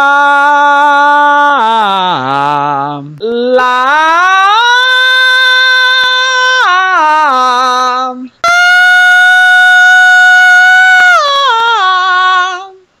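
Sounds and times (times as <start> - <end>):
man singing high notes: 0.0 - 13.0.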